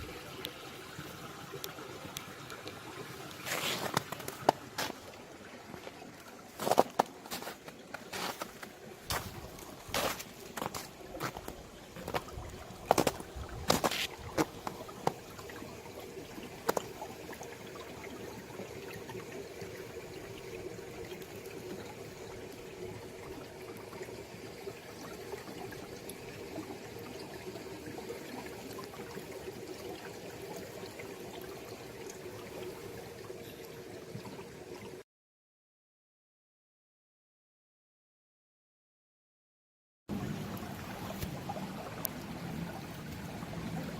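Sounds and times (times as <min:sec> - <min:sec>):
stream trickling over rocks: 0:00.0 - 0:35.0, 0:40.1 - 0:43.9.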